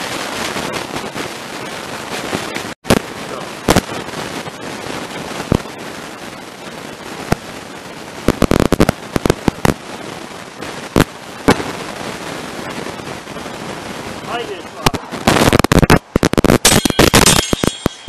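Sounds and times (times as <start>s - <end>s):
fireworks and firecrackers banging: 0.0s - 18.0s
steady hiss: 0.0s - 18.0s.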